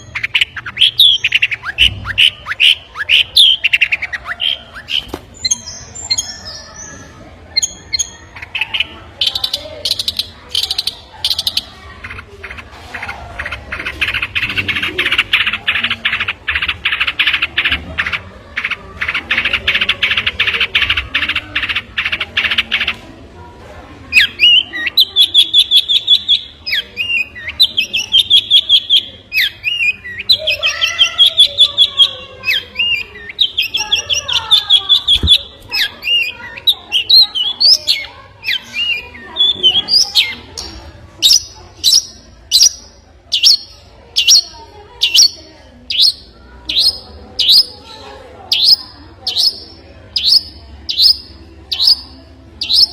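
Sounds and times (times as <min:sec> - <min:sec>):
songbird singing: 0:00.0 - 0:23.0, 0:24.1 - 0:52.9.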